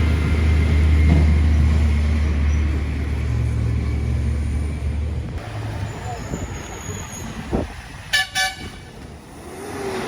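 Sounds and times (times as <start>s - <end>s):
heavy truck engine passing: 0.0s - 10.0s.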